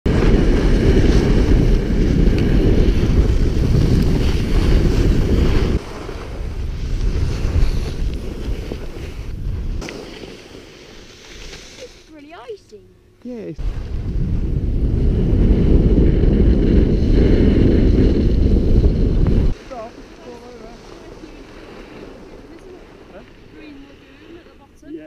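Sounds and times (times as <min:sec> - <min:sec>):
wind buffeting microphone: 0:00.1 - 0:09.8, 0:13.6 - 0:24.8.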